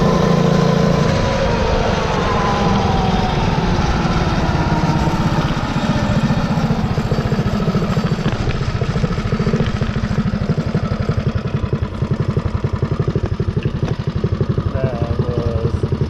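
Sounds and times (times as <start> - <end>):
mini bike engine running: 0.0 - 16.0.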